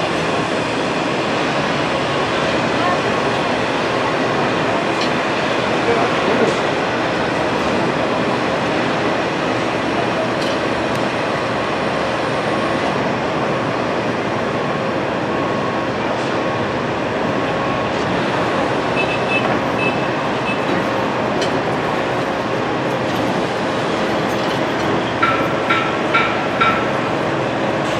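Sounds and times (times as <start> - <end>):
steady mechanical noise: 0.0 - 27.9.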